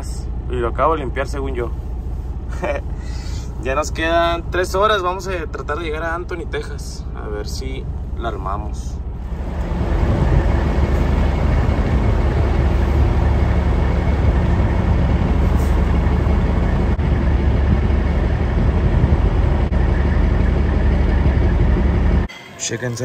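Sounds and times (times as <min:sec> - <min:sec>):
diesel truck engines rumbling: 0:00.0 - 0:22.3
even hum: 0:00.0 - 0:23.0.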